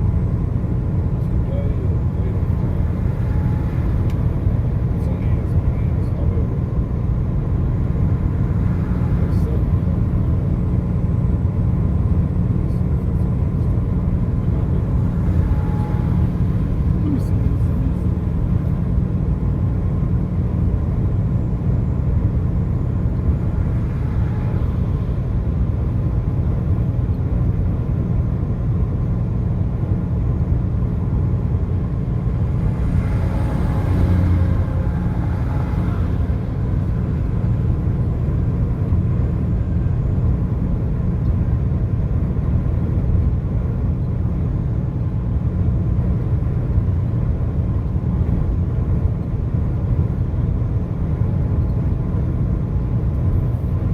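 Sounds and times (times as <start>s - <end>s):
vehicle rumble on highway: 0.0s - 53.9s.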